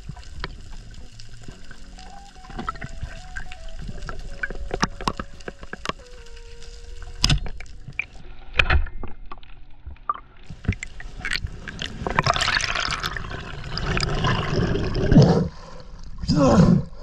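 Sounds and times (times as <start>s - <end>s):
underwater clicks: 0.0s - 14.4s
rush of water and bubbles: 0.0s - 17.0s.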